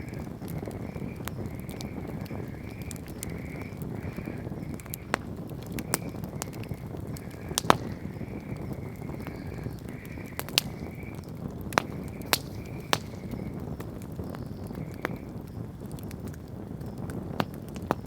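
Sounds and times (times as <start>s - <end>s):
campfire crackling and popping: 0.0s - 18.0s
low rush of fire: 0.0s - 18.0s.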